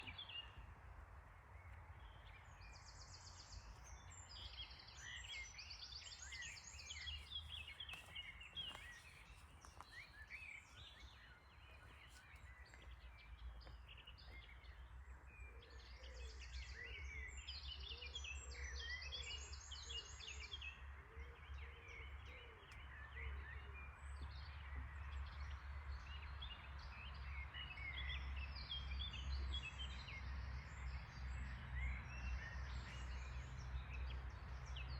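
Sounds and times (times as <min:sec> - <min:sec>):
small birds chirping and trilling: 0:00.0 - 0:34.9.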